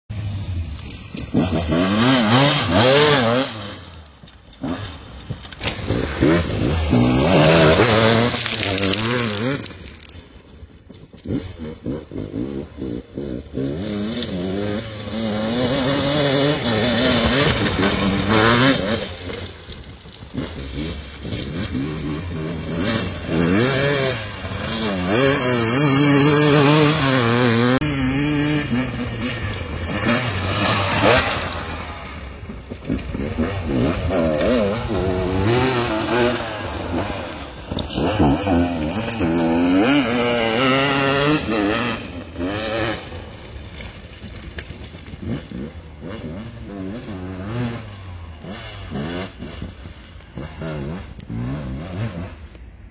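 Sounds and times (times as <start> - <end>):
vehicle engine revving: 0.2 - 10.1, 10.9 - 52.6.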